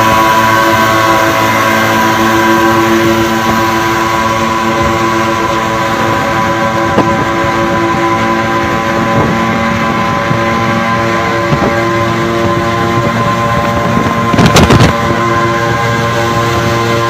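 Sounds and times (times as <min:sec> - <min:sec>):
two-stroke engines running flat out: 0:00.0 - 0:17.0.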